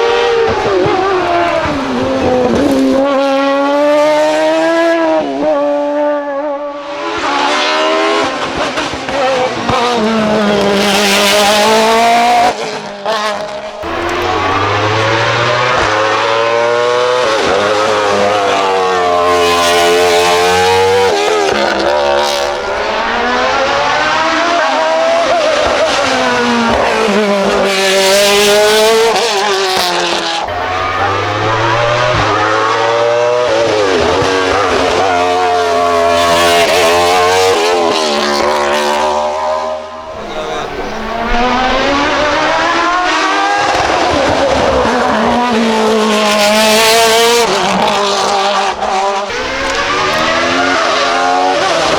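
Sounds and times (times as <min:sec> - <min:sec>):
racing car engine revving: 0:00.0 - 0:51.9.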